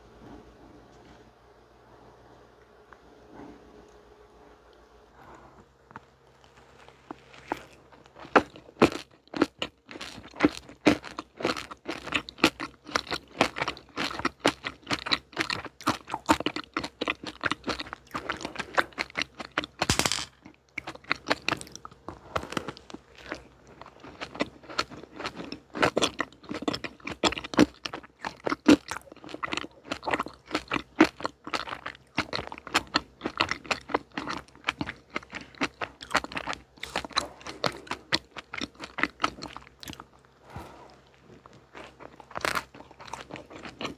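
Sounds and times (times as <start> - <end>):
chewing crunchy chocolate sweets: 3.3 - 43.9.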